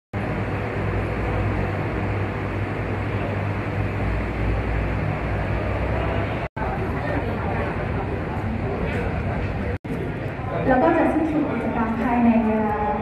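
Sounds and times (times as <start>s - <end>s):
large hall room rumble: 0.2s - 13.0s.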